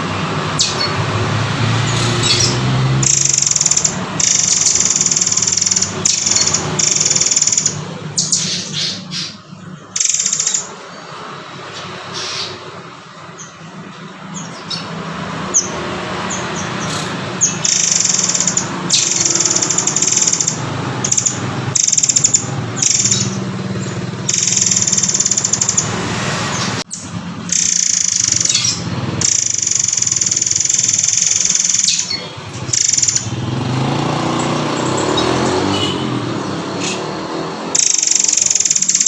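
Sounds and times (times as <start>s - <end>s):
bird chirping and trilling: 0.2s - 39.0s.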